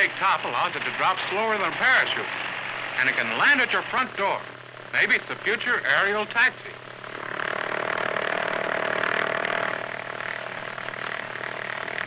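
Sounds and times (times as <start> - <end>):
old film soundtrack hiss: 0.0 - 12.0
propeller engine droning: 0.0 - 12.0.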